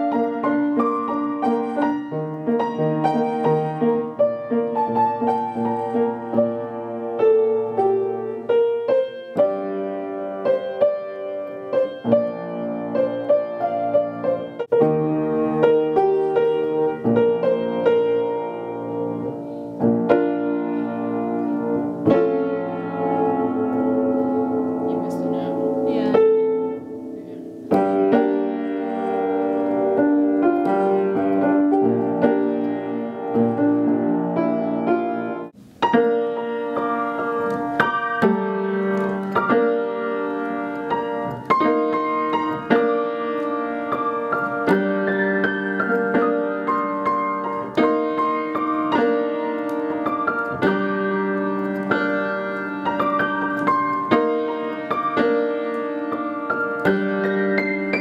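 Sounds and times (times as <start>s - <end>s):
upright piano playing: 0.0s - 58.0s.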